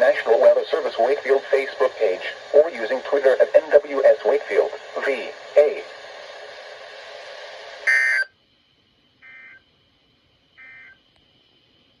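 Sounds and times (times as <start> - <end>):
steady broadcast hiss: 0.0 - 12.0.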